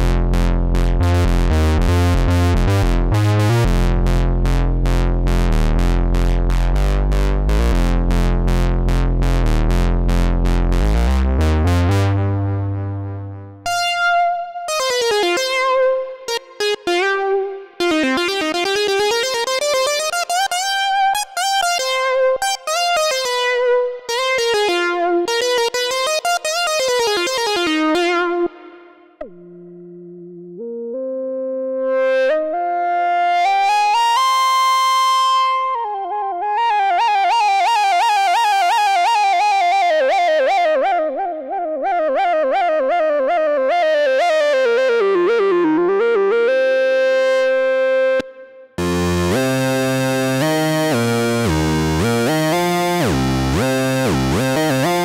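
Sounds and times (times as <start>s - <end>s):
synthesizer lead notes: 0.0s - 55.0s.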